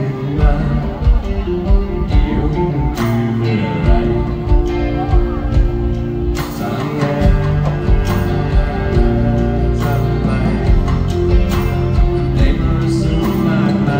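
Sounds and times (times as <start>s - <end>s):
acoustic guitar: 0.0s - 13.9s
steady drum beat: 0.0s - 13.9s.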